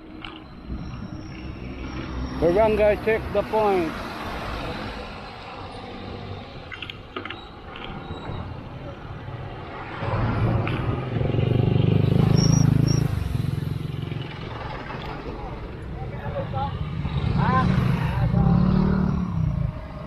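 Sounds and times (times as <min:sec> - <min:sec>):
passing vehicle engine hum: 0:00.0 - 0:20.0
road noise: 0:00.0 - 0:20.0.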